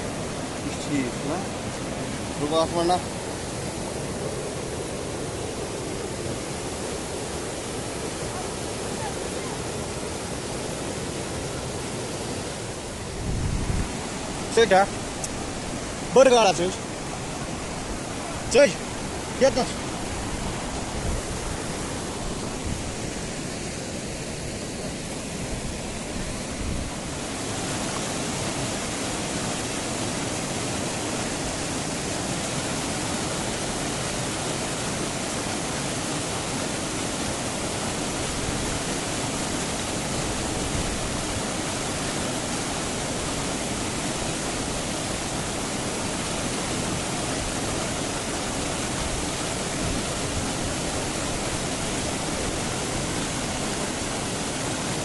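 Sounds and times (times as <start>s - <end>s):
rushing stream water: 0.0s - 55.0s.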